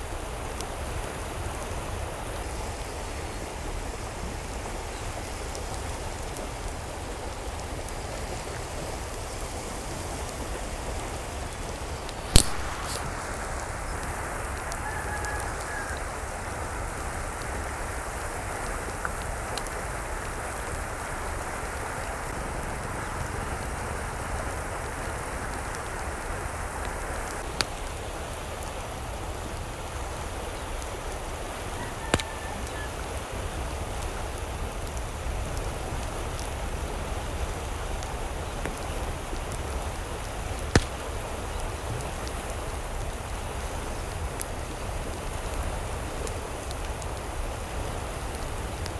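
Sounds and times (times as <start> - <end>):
stream flowing: 0.0 - 48.9.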